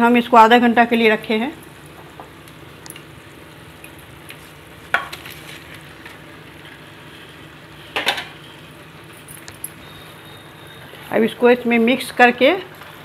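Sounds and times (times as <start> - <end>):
curry base sizzling in a pan: 0.1 - 9.1, 9.8 - 13.0.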